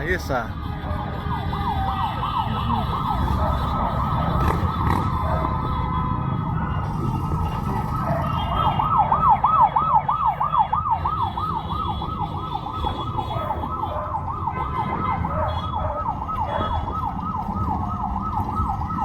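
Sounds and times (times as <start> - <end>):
electronic siren yelping: 0.8 - 19.0.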